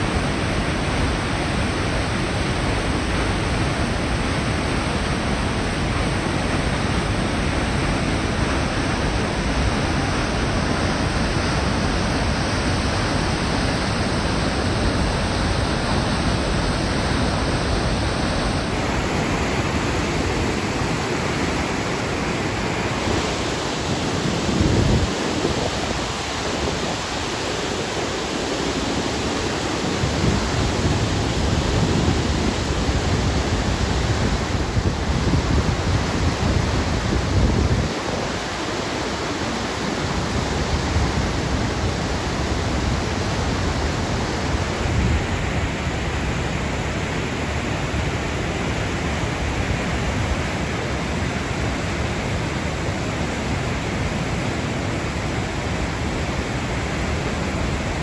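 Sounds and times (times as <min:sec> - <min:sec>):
whitewater rushing over falls: 0:00.0 - 0:58.0.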